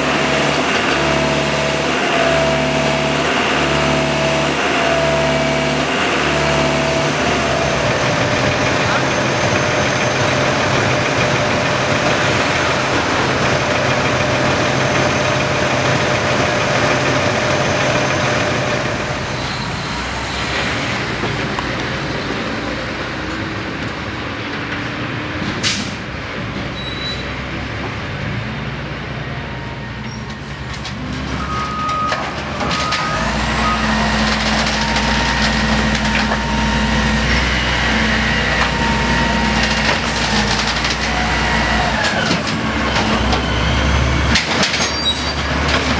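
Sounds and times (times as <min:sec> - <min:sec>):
diesel truck engine running: 0:00.0 - 0:24.7, 0:30.6 - 0:45.9.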